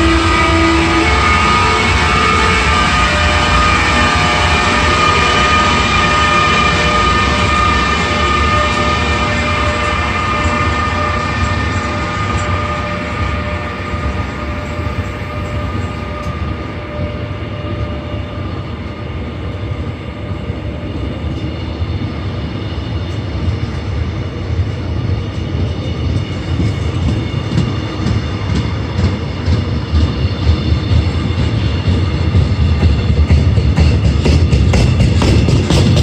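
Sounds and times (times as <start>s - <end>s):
locomotive whine: 0.0s - 36.0s
train rumble: 0.0s - 36.0s.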